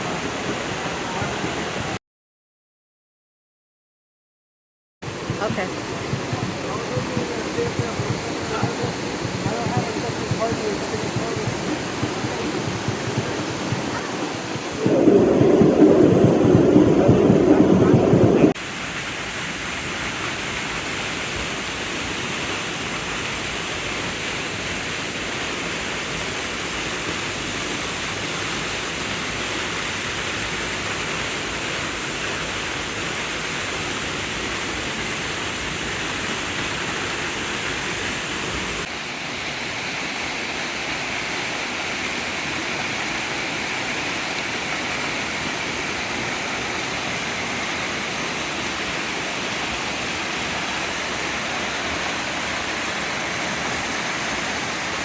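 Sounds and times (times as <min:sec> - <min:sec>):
waterfall rushing: 0:00.0 - 0:02.0, 0:05.0 - 0:55.0.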